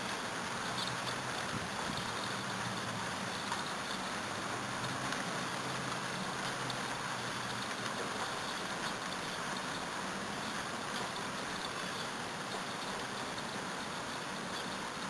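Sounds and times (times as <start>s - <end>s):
rain shower falling: 0.0s - 15.0s.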